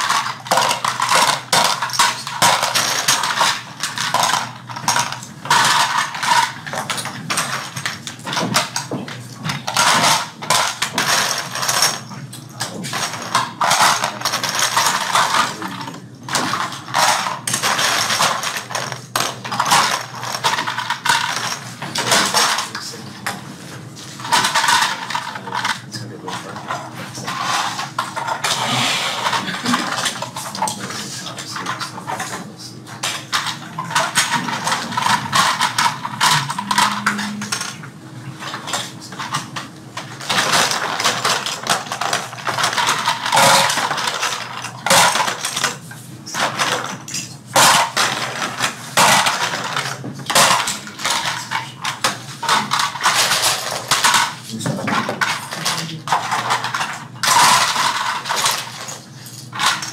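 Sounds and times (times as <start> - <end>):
toy parts clicking and clattering: 0.0 - 22.9, 24.2 - 37.8, 38.4 - 59.9.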